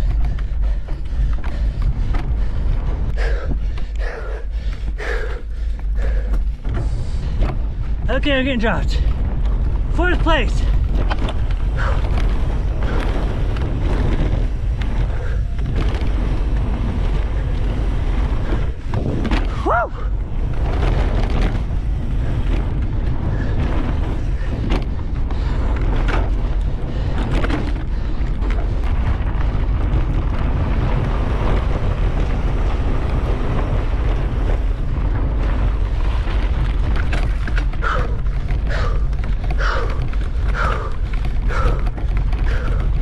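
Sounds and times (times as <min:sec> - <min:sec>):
bike knocks and rattles: 0:00.0 - 0:43.0
wind buffeting microphone: 0:00.0 - 0:43.0.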